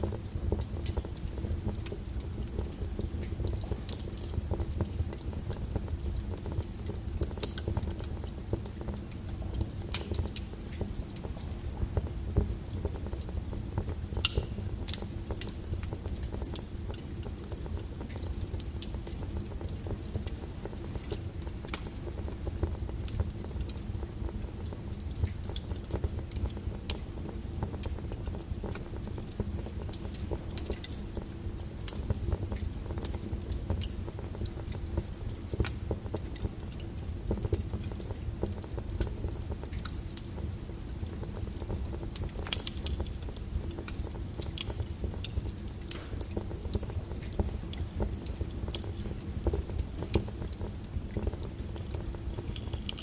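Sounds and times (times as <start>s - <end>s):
logs crackling and popping: 0.0s - 53.0s
rumble of flames: 0.0s - 53.0s.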